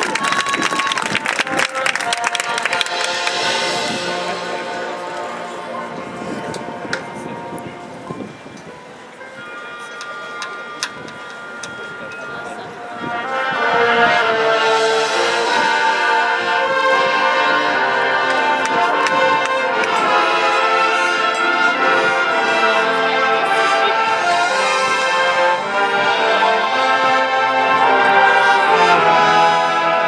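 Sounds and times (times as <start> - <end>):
brass chords: 1.2 - 30.0.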